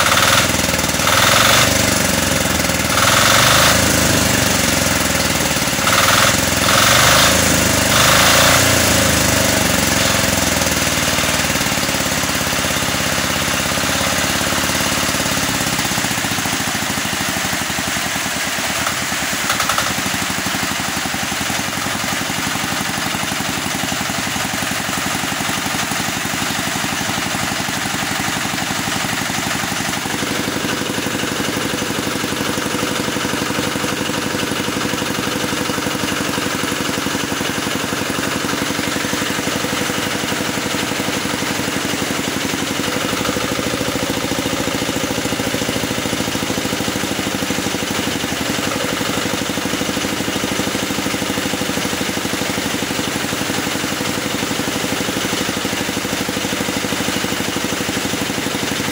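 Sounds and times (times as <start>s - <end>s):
small diesel engine running: 0.0s - 58.9s.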